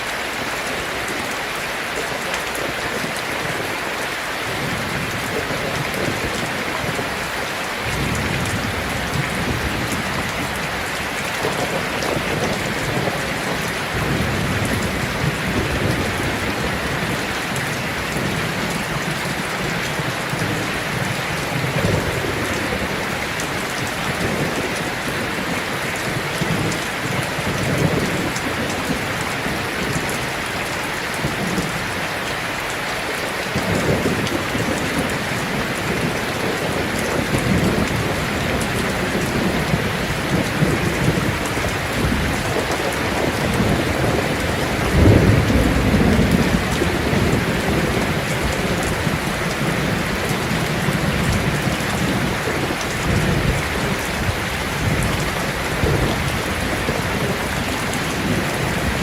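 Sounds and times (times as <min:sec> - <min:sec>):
heavy rain on a tin roof: 0:00.0 - 0:59.0
rumbling thunder: 0:07.8 - 0:30.3, 0:33.5 - 0:59.0.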